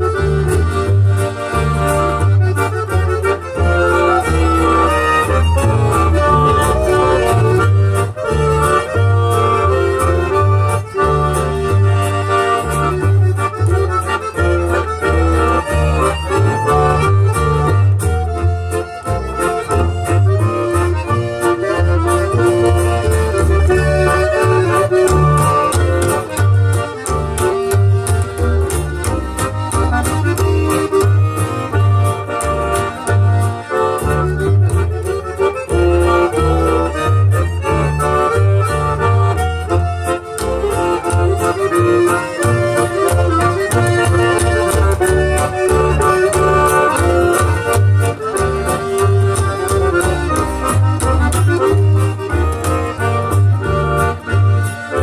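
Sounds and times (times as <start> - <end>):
accordion melody: 0.0 - 55.0
acoustic guitar: 0.0 - 55.0
double bass notes: 0.0 - 55.0.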